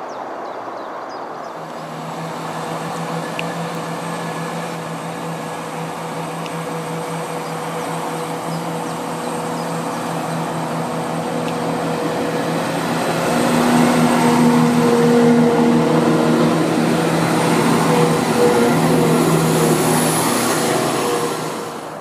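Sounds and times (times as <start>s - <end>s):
train diesel engine droning: 1.6s - 22.0s.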